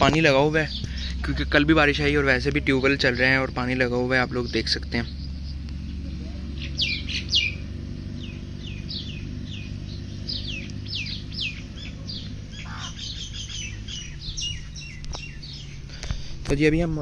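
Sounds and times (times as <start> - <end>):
birds chirping: 0.0 - 17.0
steady low hum: 0.0 - 17.0.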